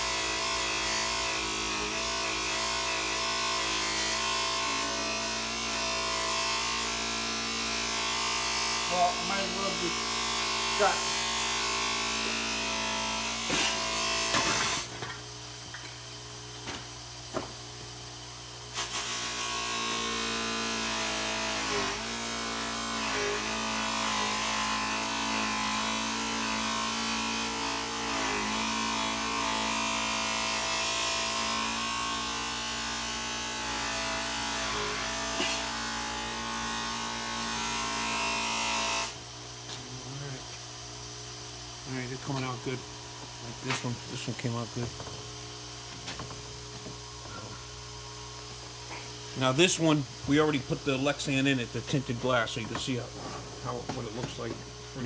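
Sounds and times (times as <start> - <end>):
power tool buzzing whine: 0.0 - 55.0.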